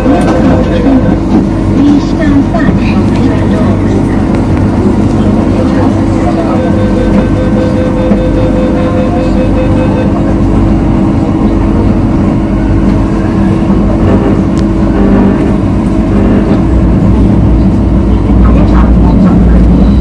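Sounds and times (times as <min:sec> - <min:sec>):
train motor hum: 0:00.0 - 0:20.0
train running rumble: 0:00.0 - 0:20.0.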